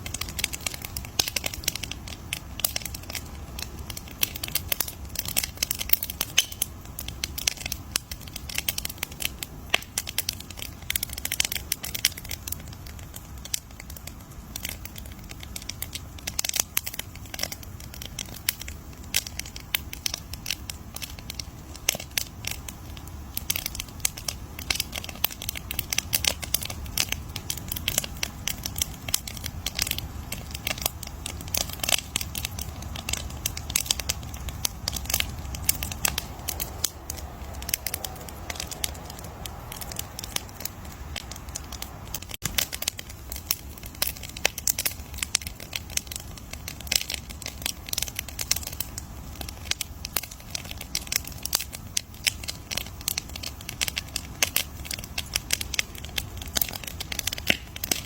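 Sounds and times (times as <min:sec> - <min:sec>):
bonfire crackling: 0:00.0 - 0:58.0.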